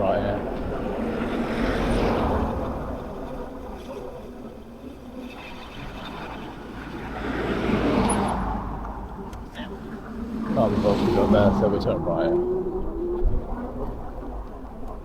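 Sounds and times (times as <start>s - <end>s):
wind and road noise rushing: 0.0s - 14.6s.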